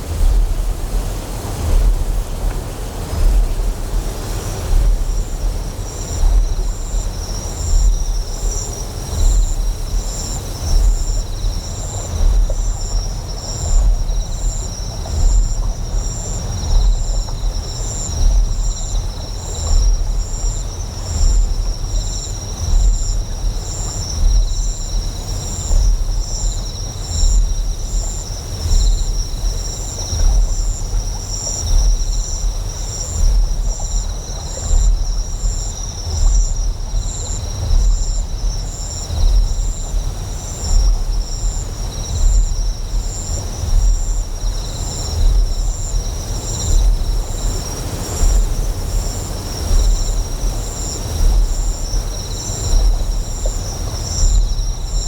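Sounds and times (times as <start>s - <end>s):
deep pulsing generator hum: 0.0s - 55.0s
flowing water hiss: 0.0s - 55.0s
insect chirping: 0.0s - 55.0s.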